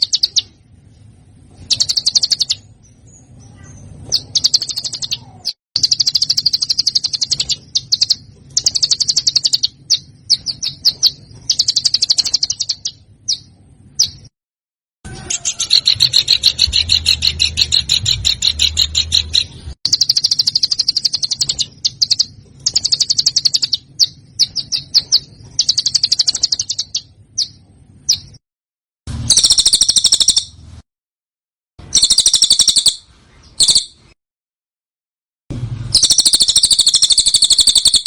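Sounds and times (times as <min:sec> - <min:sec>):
songbird trills: 0:00.0 - 0:14.3, 0:15.1 - 0:28.4, 0:29.3 - 0:30.6, 0:31.9 - 0:34.2, 0:36.0 - 0:38.0.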